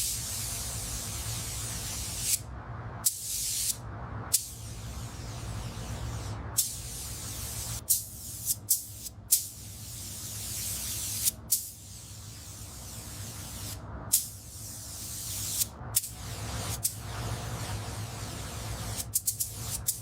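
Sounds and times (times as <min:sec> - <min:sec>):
pressurised spray hissing: 0:00.0 - 0:02.4, 0:03.0 - 0:20.0.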